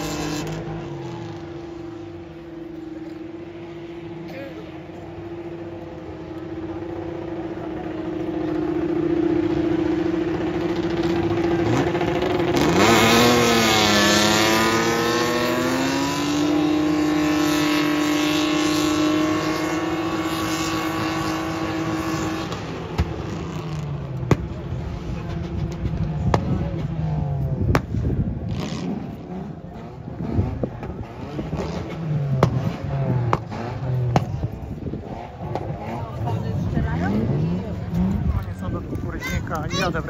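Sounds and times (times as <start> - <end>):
car engines revving high: 0.0 - 40.0.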